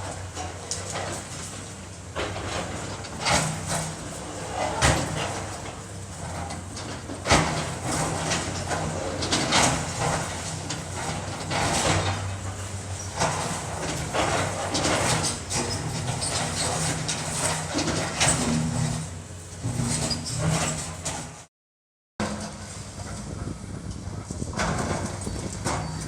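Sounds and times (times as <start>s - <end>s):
heavy machine engine running: 0.0s - 21.4s, 22.2s - 26.0s.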